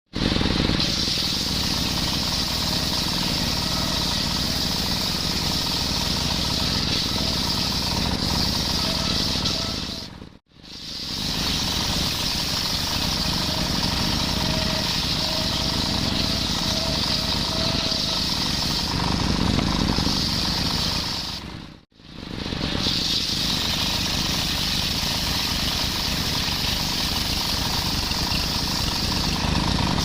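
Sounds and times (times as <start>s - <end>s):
engine-driven circular saw cutting: 0.1s - 30.0s.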